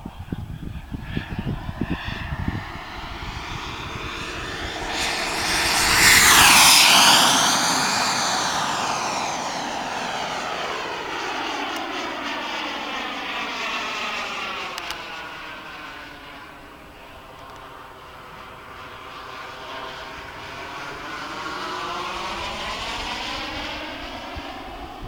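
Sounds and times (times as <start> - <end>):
model jet turbine whine: 0.0 - 25.0.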